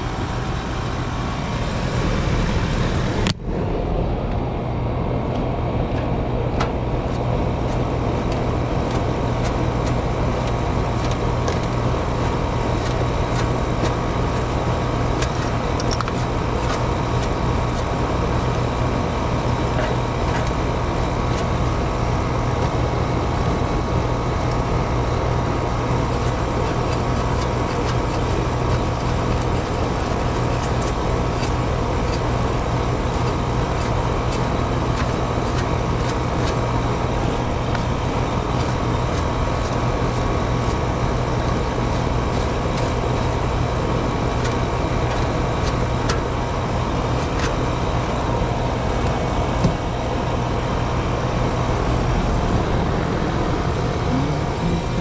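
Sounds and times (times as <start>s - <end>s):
air conditioner hum and air rush: 0.0s - 55.0s.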